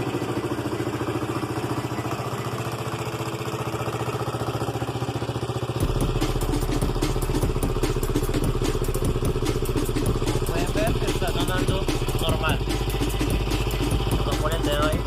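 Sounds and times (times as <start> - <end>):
motorcycle engine idling: 0.0 - 15.0
sharp engine ticking: 0.0 - 15.0.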